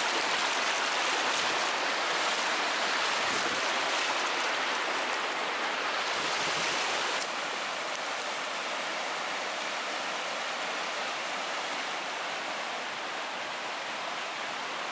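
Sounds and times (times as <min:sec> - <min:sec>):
river rushing over rocks: 0:00.0 - 0:14.9.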